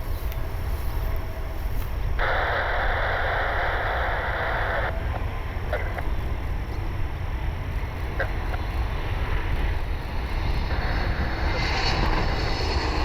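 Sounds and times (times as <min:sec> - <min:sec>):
distant aircraft: 0:00.0 - 0:13.0
wind rumble: 0:00.0 - 0:13.0
radio static hiss: 0:02.2 - 0:13.0.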